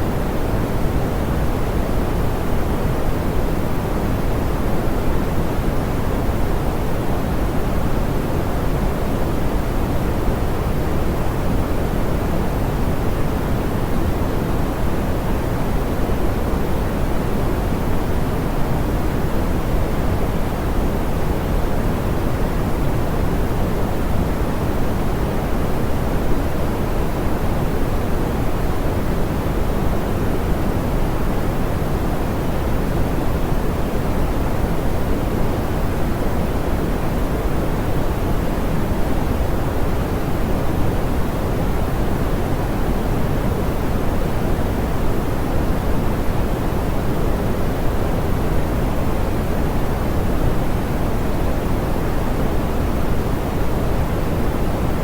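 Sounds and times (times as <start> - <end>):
soft pink noise hiss: 0.0 - 55.0.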